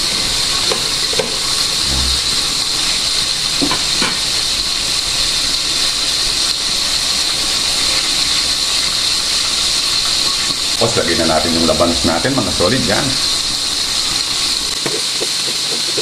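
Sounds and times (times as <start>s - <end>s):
pot boiling: 0.0s - 16.0s
vegetables sizzling in a pan: 0.0s - 16.0s.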